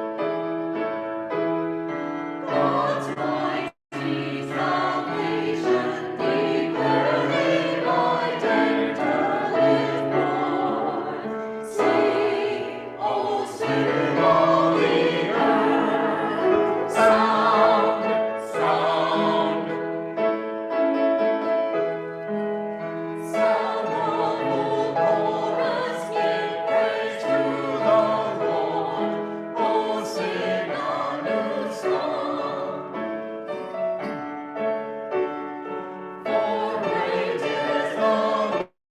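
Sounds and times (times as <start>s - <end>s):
church choir singing: 0.0s - 38.8s.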